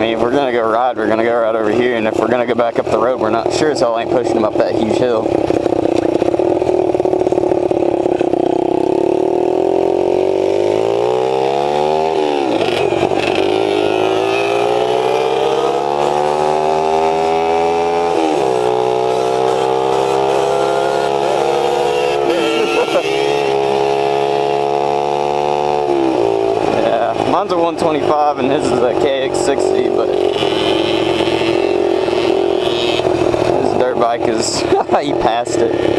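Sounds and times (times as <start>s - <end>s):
pit bike engine revving: 0.0s - 35.9s.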